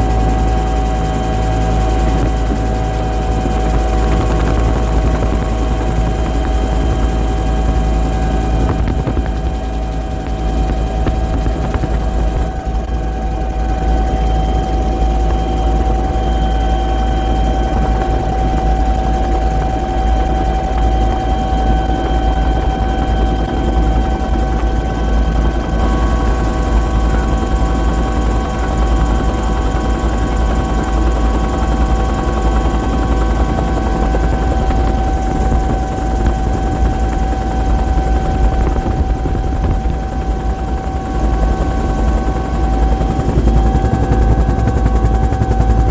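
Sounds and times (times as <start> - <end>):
helicopter running: 0.0 - 45.9.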